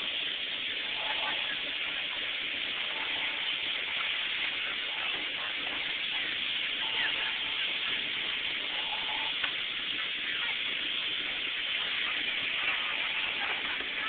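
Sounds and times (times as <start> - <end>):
faint voices talking: 0.0 - 14.0
steady hiss: 0.0 - 14.0.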